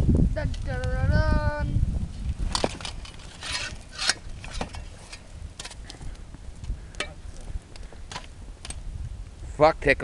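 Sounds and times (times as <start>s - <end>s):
wind rumble on microphone: 0.0s - 10.0s
bonfire crackling and popping: 0.4s - 1.1s, 2.0s - 10.0s.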